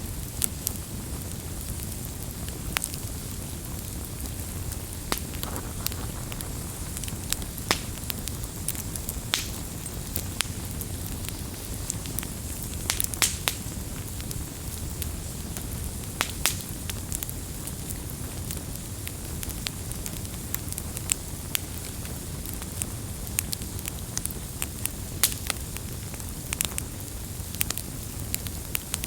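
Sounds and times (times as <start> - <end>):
campfire rumble and hiss: 0.0 - 29.0
fire crackling and popping: 0.0 - 29.0.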